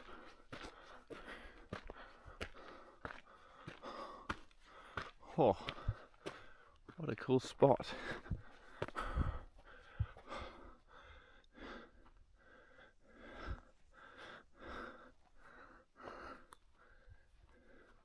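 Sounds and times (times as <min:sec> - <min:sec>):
man panting: 0:00.0 - 0:06.9, 0:07.7 - 0:18.0.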